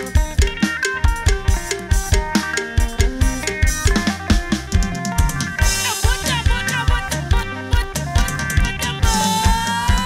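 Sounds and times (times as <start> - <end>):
electronic drum beat: 0.0 - 10.0.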